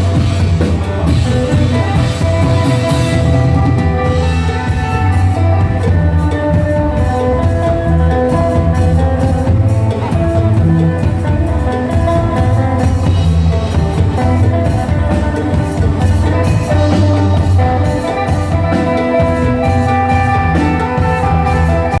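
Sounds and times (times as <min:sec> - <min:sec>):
drums: 0:00.0 - 0:22.0
low bass line: 0:00.0 - 0:22.0.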